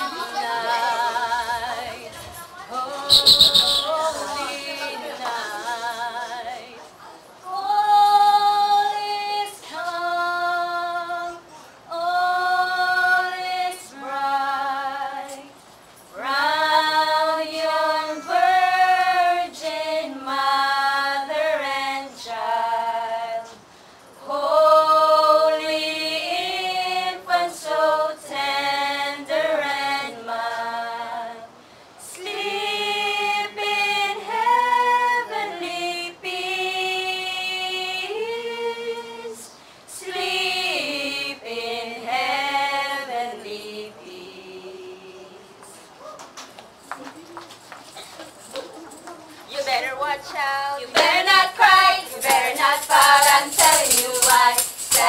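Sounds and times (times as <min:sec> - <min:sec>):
choir of women singing carol: 0:00.0 - 0:46.0, 0:50.7 - 0:55.0.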